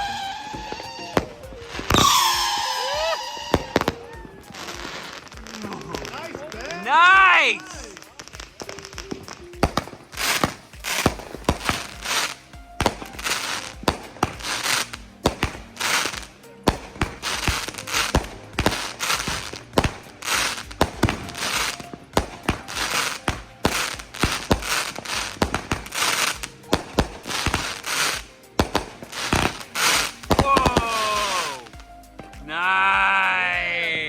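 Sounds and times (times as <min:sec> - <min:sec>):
firework bangs: 0:00.0 - 0:34.0
firework crackling and hissing: 0:00.0 - 0:34.0.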